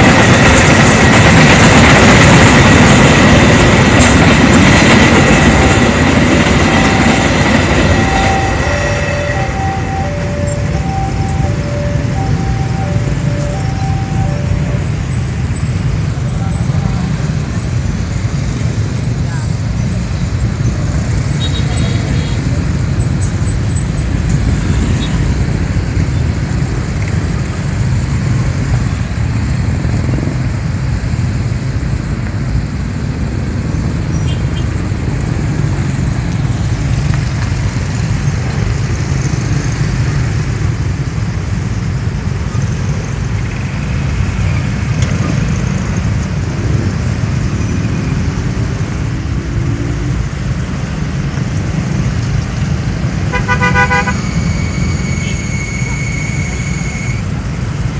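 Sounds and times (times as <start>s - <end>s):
traffic engines idling: 0.0s - 57.9s.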